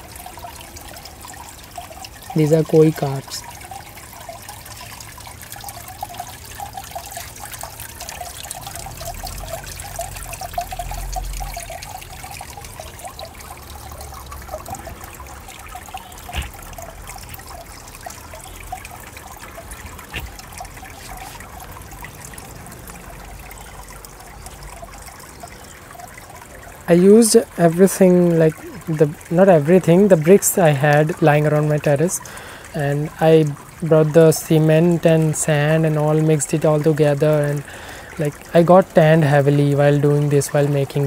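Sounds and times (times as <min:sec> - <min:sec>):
waterfall trickling and splashing: 0:00.0 - 0:41.0.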